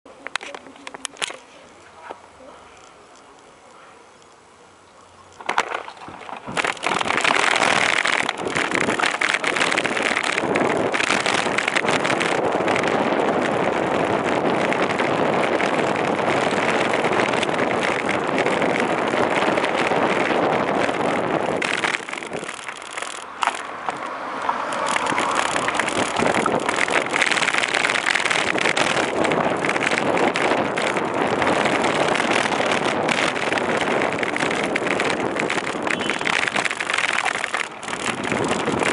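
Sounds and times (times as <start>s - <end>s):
bicycle rattle and road noise: 0.1s - 38.9s
wind rushing over microphone: 5.5s - 38.9s.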